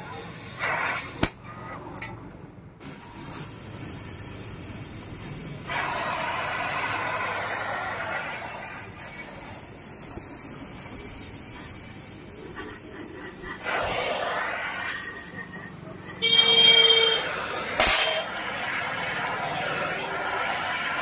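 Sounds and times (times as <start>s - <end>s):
gas welding torch hissing: 0.0s - 1.4s, 2.8s - 21.0s.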